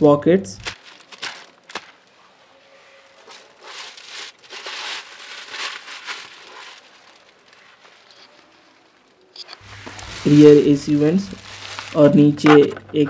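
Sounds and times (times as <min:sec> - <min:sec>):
plastic wrap crinkling: 0:00.6 - 0:13.0.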